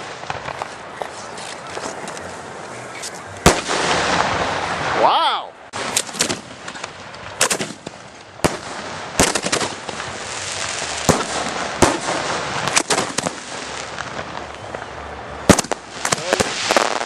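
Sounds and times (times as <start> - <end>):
fireworks bangs: 0.0 - 17.0
steady hiss: 0.0 - 17.0.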